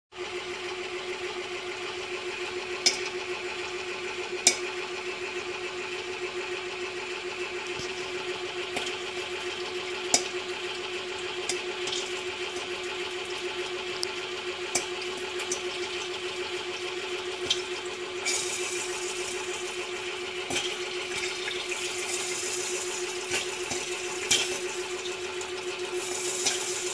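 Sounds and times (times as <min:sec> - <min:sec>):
stirrer motor humming: 0:00.2 - 0:26.9.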